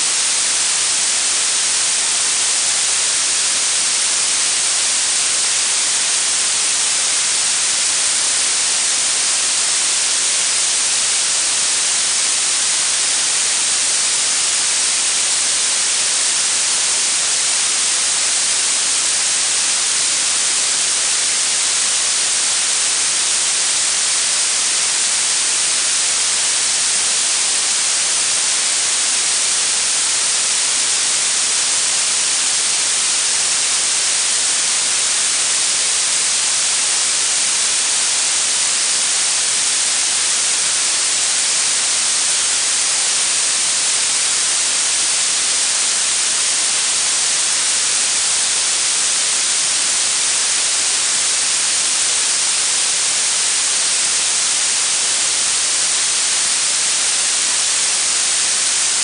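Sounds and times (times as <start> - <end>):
steady high-pitched hiss: 0.0 - 59.0.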